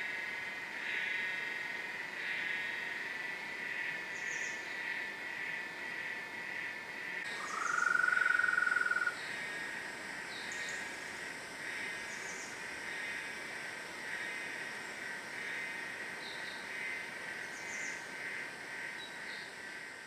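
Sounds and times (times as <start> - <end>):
insect chorus: 0.0 - 20.0
loud insect trill: 0.0 - 20.0.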